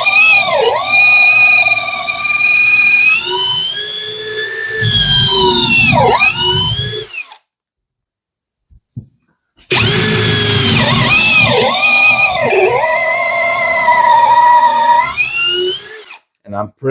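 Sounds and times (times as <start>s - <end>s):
cordless drill whining into wood: 0.0s - 7.5s, 9.7s - 16.3s.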